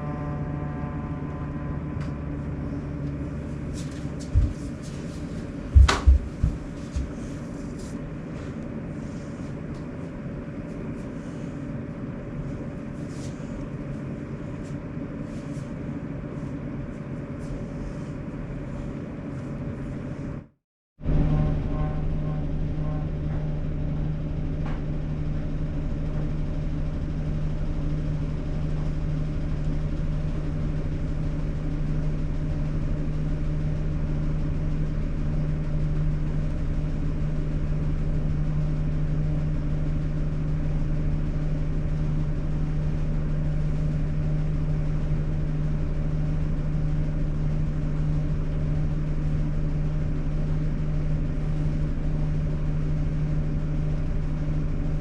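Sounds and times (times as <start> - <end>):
air conditioner humming: 0.8 - 20.5, 21.1 - 55.0.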